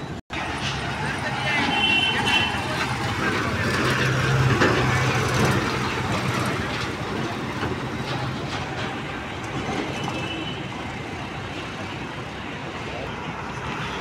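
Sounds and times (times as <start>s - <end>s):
diesel truck engine humming: 0.0s - 14.0s
trailer rattling and clanking: 0.0s - 14.0s.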